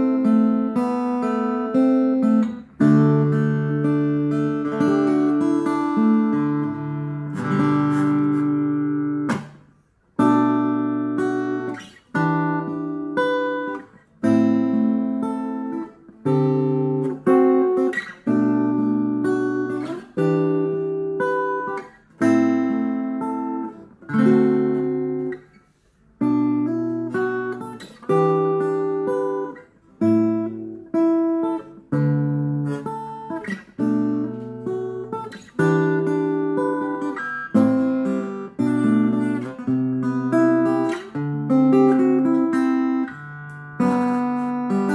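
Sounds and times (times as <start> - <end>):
acoustic guitar strummed chords: 0.0 - 44.9.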